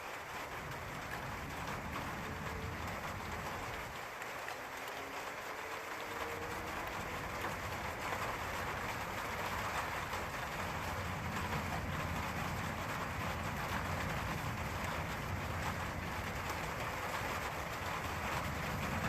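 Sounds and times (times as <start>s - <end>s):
steady rain falling: 0.0s - 19.0s
thunder rumbling: 0.3s - 4.0s, 5.6s - 19.0s.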